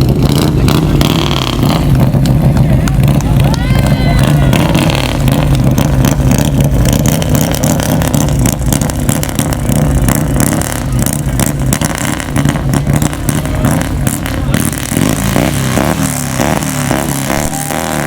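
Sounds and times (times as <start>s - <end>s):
motorcycle engines at low revs: 0.0s - 18.0s.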